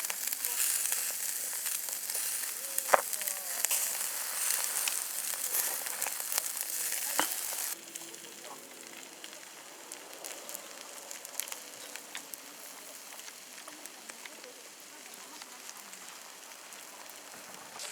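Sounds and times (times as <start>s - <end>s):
food sizzling in a pan: 0.0s - 17.9s
oil popping: 0.0s - 17.9s.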